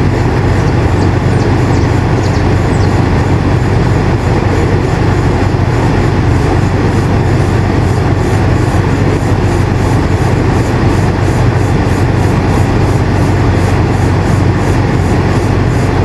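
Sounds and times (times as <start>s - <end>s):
air conditioner hum: 0.0s - 16.0s
rush of air: 0.0s - 16.0s.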